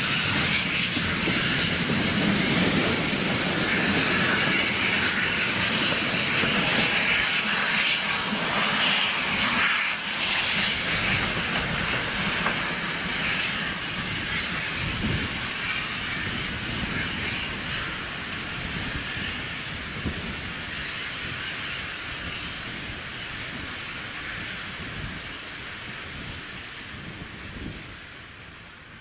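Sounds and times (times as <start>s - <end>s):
freight train wagons rumbling: 0.0s - 28.2s.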